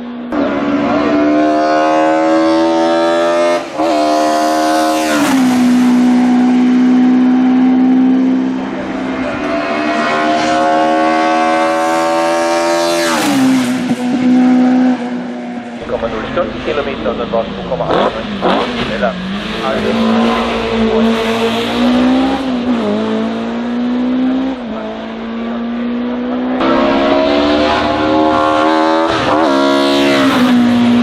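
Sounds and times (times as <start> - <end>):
racing engine at full throttle: 0.0 - 31.0.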